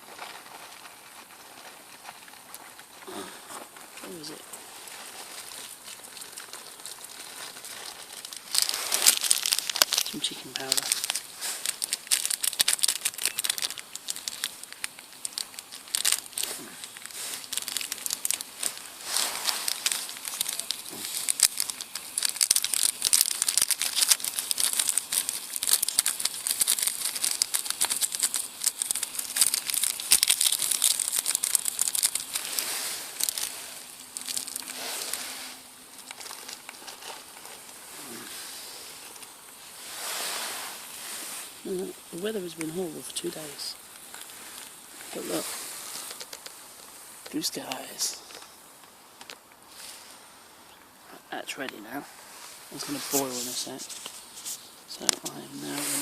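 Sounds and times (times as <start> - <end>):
plastic sachet crinkling: 0.0 - 50.2, 51.6 - 56.0.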